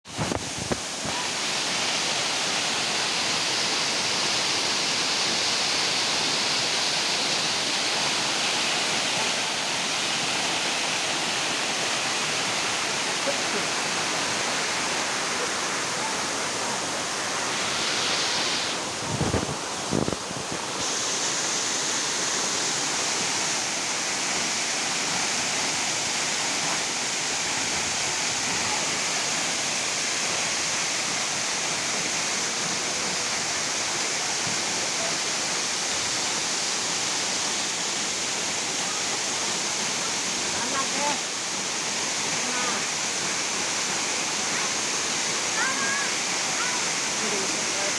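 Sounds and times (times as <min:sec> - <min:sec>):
waterfall rushing: 0:00.1 - 0:47.9.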